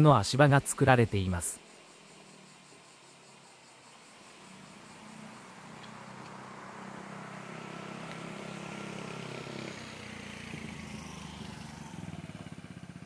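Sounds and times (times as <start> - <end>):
vehicle engine running: 0.9 - 13.0.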